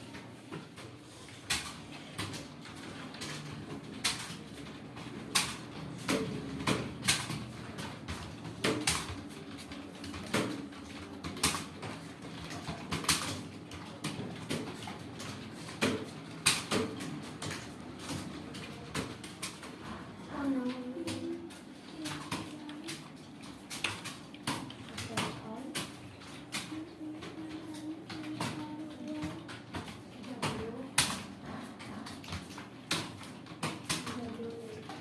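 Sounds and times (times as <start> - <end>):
low background hum: 0.0 - 35.0.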